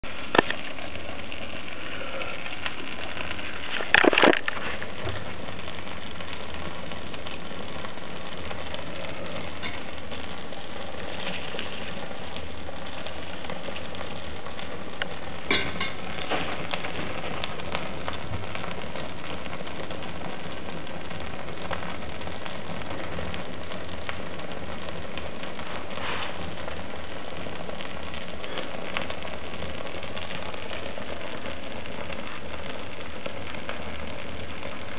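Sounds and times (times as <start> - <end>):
wood fire crackling and hissing: 0.0 - 34.9.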